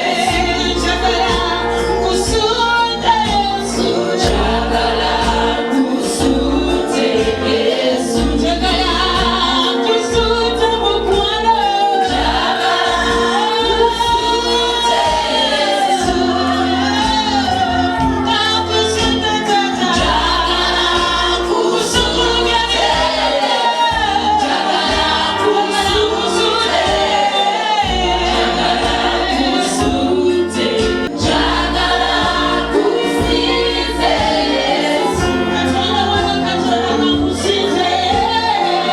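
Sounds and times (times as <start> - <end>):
bass line: 0.0 - 38.6
drum beats: 0.0 - 38.9
gospel choir singing: 0.0 - 38.9.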